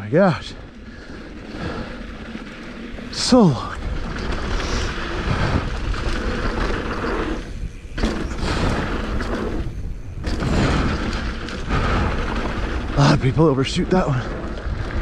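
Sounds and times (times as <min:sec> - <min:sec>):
bike tyres rolling over rocky dirt: 0:00.0 - 0:15.0
wind rushing over camera: 0:00.2 - 0:15.0.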